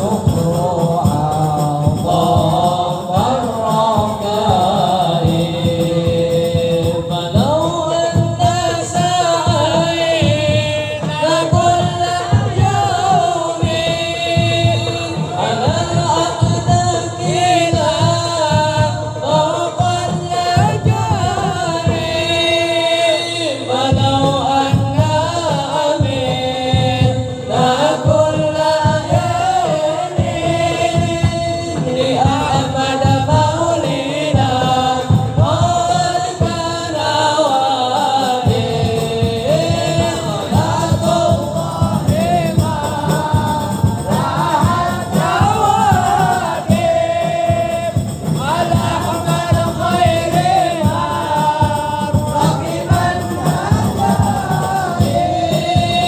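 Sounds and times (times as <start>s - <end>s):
hand drums: 0.0s - 56.0s
man singing through loudspeaker: 0.0s - 56.0s
voices singing along: 0.0s - 56.0s.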